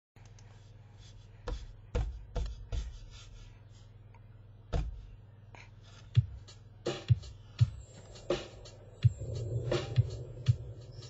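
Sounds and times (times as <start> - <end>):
steady low hum: 0.2 - 11.0.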